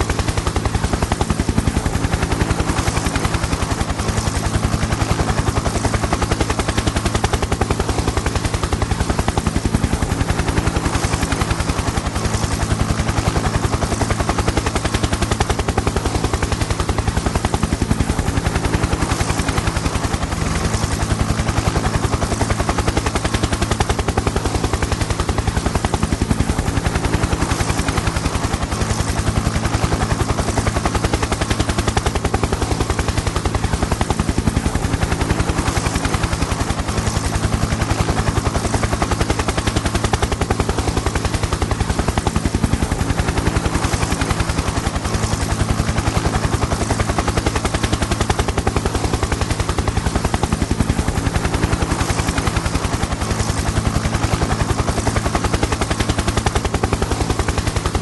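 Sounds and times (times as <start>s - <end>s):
helicopter engine drone: 0.0s - 58.0s
helicopter rotor chop: 0.0s - 58.0s.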